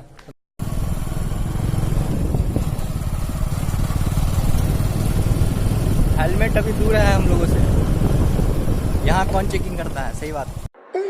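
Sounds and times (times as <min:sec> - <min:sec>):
motorcycle running: 0:00.6 - 0:10.7
wind buffeting microphone: 0:01.3 - 0:10.7.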